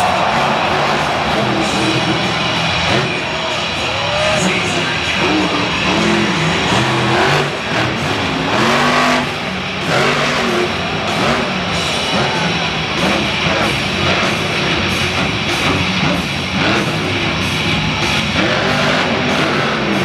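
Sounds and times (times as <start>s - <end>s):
heavy rock music: 0.0s - 20.0s
monster truck engine revving: 0.0s - 20.0s.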